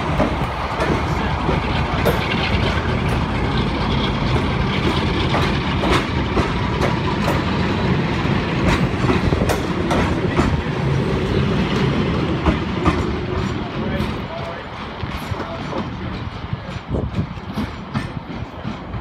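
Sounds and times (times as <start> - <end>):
diesel locomotive engine running: 0.0 - 19.0
train wheels clicking over joints: 0.0 - 19.0.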